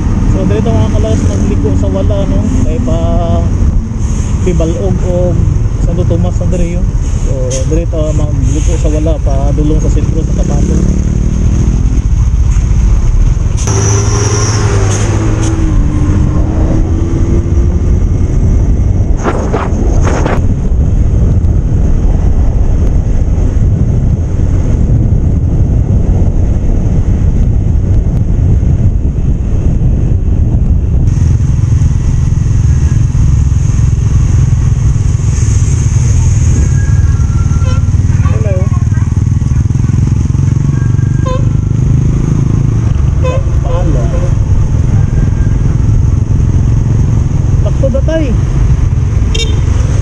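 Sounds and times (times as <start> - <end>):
wind rush on microphone: 0.0 - 50.0
motorcycle engine running: 9.2 - 50.0.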